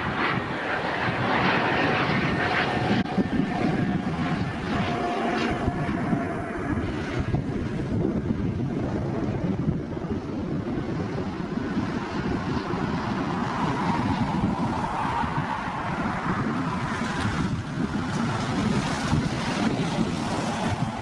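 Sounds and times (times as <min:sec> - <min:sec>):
faint jet engine whine: 0:00.0 - 0:21.0
wind buffeting microphone: 0:00.0 - 0:21.0.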